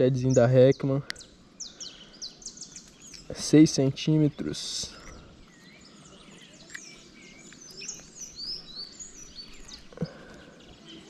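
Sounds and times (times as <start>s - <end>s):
outdoor hiss: 0.0s - 11.0s
small birds chirping: 0.0s - 11.0s.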